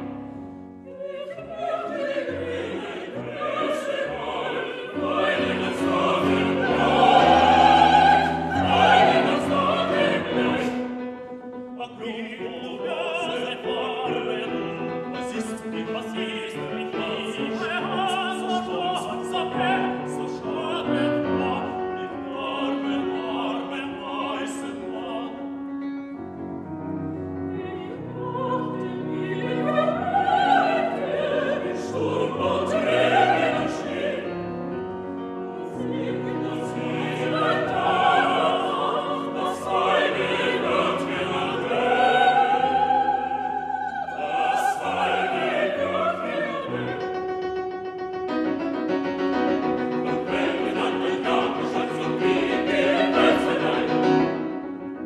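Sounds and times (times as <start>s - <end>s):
mixed choir singing: 0.0s - 25.6s, 27.4s - 47.6s, 49.8s - 55.0s
piano: 0.0s - 55.0s.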